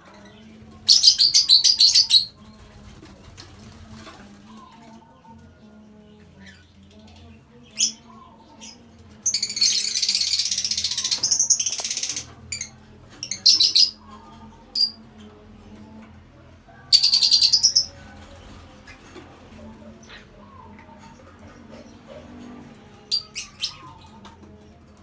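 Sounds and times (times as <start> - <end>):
lovebirds chattering: 0.0 - 16.0, 16.9 - 25.0.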